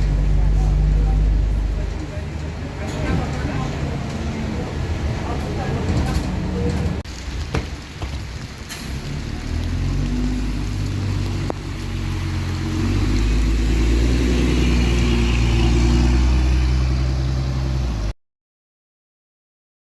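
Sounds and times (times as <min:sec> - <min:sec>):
bus diesel engine accelerating: 0:00.0 - 0:07.0, 0:08.6 - 0:18.2.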